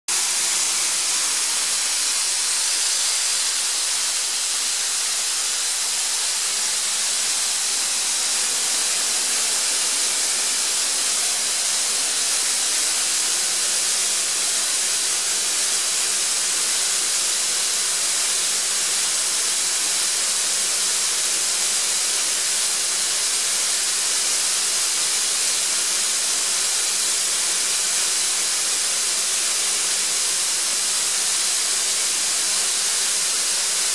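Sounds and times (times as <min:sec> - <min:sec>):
air compressor hissing: 0:00.1 - 0:33.9.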